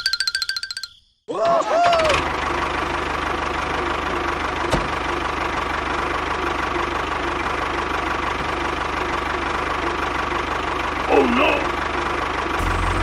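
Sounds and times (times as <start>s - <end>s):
small engine idling: 2.0s - 13.0s.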